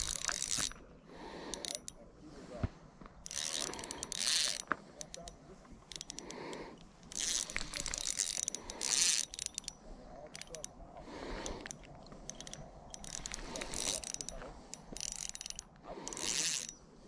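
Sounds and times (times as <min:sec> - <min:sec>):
fishing reel gears whirring: 0:00.0 - 0:00.8, 0:01.4 - 0:02.0, 0:03.2 - 0:16.8.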